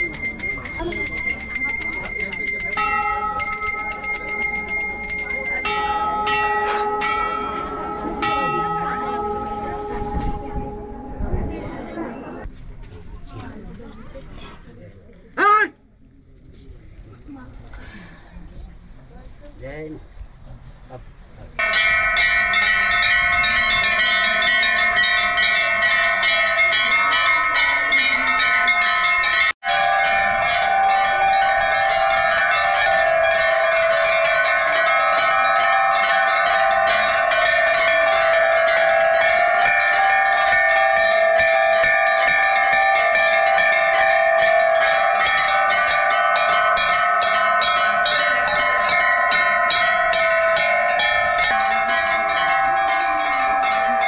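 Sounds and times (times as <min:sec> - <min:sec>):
temple bells ringing: 0:00.0 - 0:12.5, 0:21.6 - 0:54.0.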